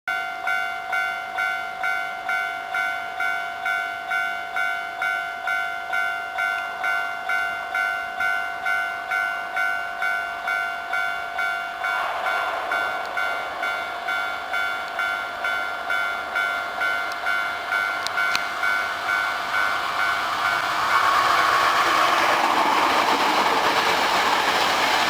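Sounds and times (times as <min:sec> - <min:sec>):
level-crossing electronic bell: 0:00.1 - 0:20.7
train running noise: 0:00.4 - 0:25.0.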